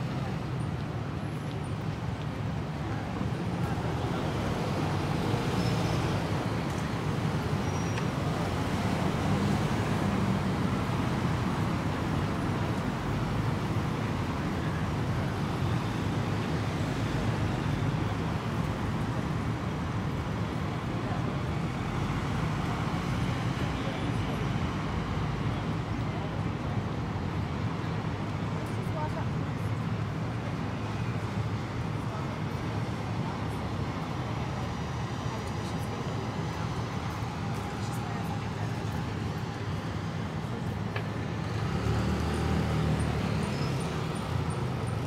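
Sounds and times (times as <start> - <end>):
cars and buses passing: 0.0 - 45.0
low city rumble: 0.0 - 45.0.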